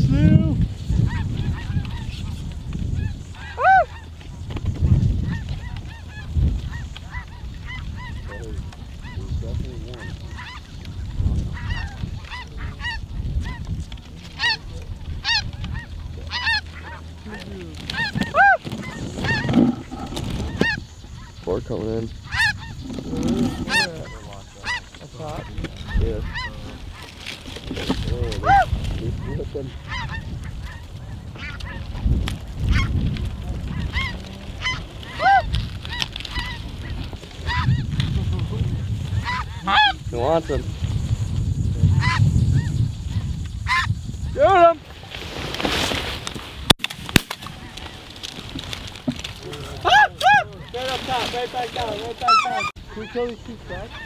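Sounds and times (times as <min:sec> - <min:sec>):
snow geese calling: 0:00.8 - 0:45.1, 0:47.2 - 0:54.0.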